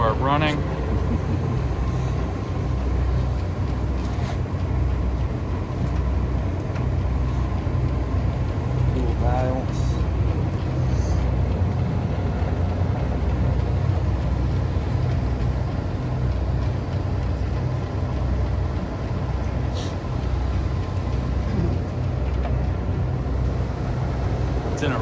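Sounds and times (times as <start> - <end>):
lathe running with low hum: 0.0 - 25.0.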